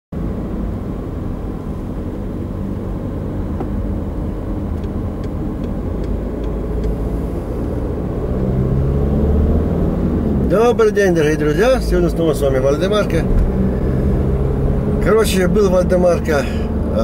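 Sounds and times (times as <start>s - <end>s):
car engine and tyre drone: 0.2s - 17.0s.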